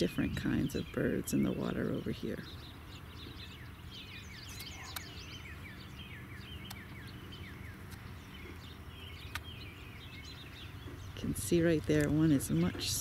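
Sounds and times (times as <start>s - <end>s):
low outdoor rumble: 0.0s - 13.0s
songbirds chirping: 0.0s - 13.0s.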